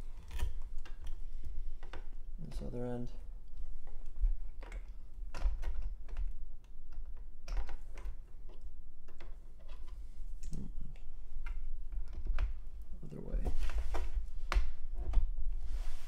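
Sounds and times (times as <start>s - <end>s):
cables and connectors clicking: 0.0s - 13.1s.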